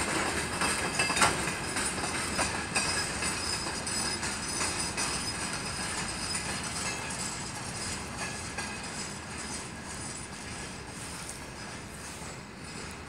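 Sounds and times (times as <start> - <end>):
freight train rolling on rails: 0.0 - 13.0.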